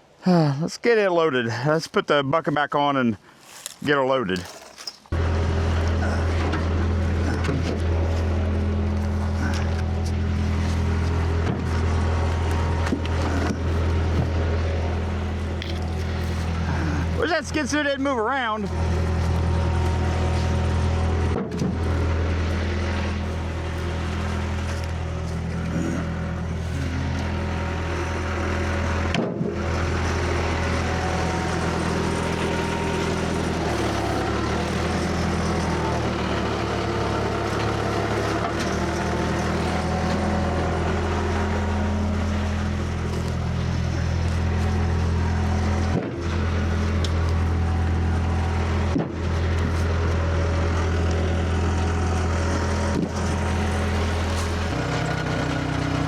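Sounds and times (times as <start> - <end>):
skid steer engine running: 3.5 - 56.0.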